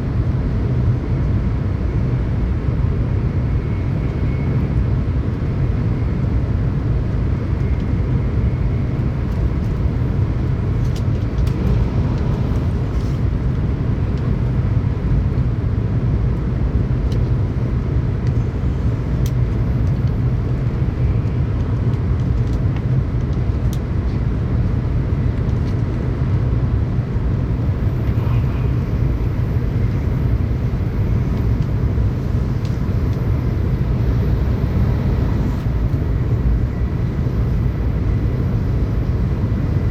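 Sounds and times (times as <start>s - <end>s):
train rumble from inside car: 0.0s - 39.9s.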